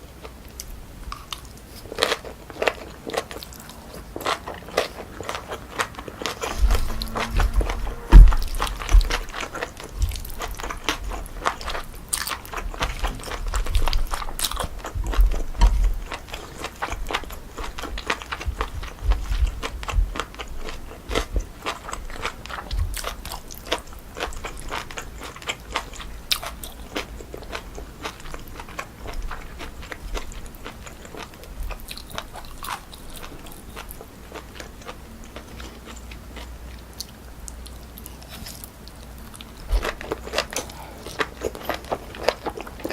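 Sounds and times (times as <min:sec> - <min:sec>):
chewing with crisp crunches: 0:00.0 - 0:42.9.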